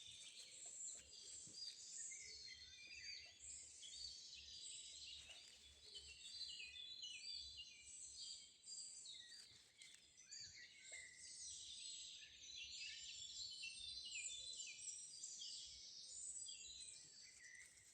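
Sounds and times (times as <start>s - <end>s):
faint forest bird chorus: 0.0s - 17.9s.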